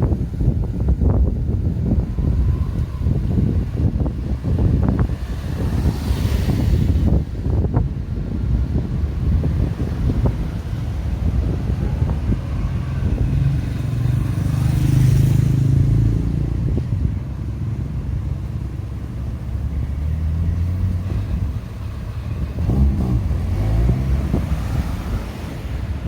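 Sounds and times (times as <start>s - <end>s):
road traffic passing: 0.0s - 26.0s
wind buffeting microphone: 0.0s - 26.0s
vehicle engine pulling away: 0.1s - 26.0s.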